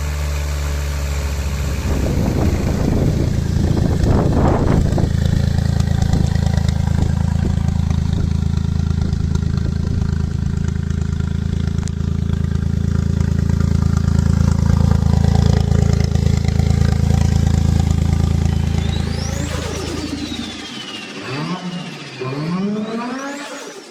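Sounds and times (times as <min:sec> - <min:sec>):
car engine exhaust drone: 0:00.0 - 0:23.9.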